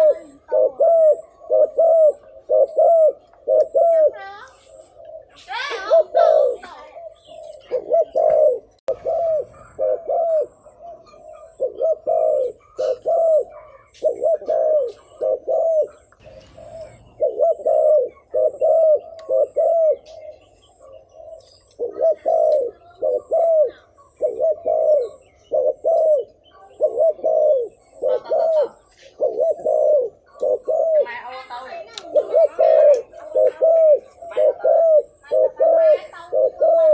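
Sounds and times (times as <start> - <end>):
dove cooing: 0.0 - 36.9.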